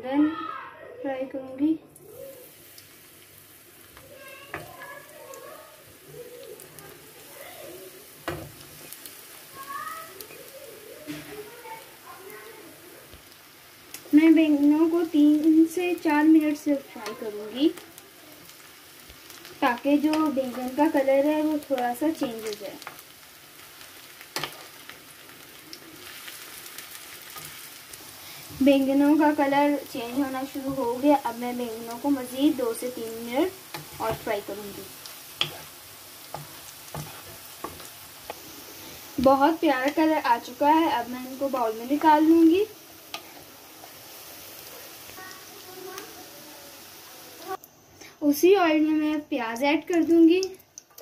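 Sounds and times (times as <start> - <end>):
food sizzling in hot oil: 1.6 - 51.0.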